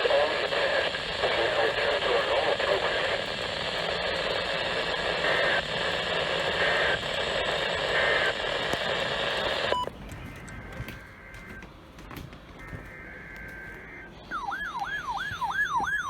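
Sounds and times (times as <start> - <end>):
radio static hiss: 0.0 - 11.7, 12.6 - 16.0.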